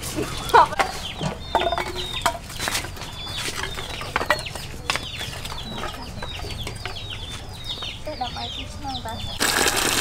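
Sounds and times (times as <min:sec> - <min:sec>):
chickens clucking and cheeping: 0:00.0 - 0:09.5.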